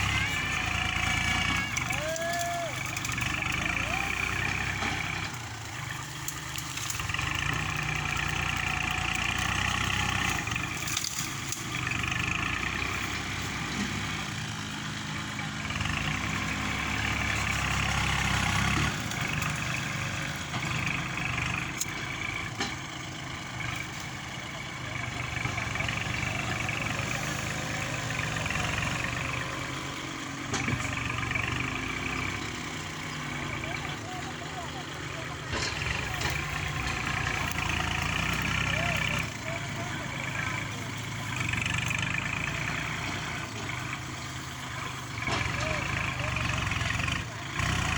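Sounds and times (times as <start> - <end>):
heavy diesel engine working: 0.0 - 47.9.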